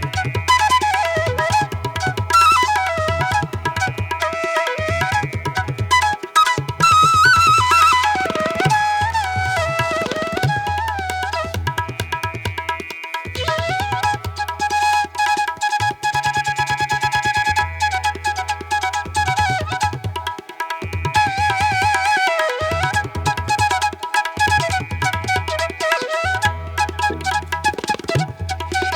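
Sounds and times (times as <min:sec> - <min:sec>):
rapid hand-drum rhythm: 0:00.0 - 0:16.1, 0:18.8 - 0:26.2, 0:26.8 - 0:28.9.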